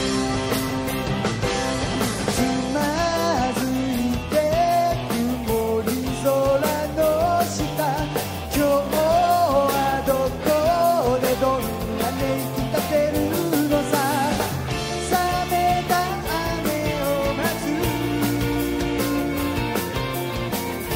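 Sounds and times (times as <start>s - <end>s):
drums steady beat: 0.0s - 20.9s
live rock band playing: 0.0s - 20.9s.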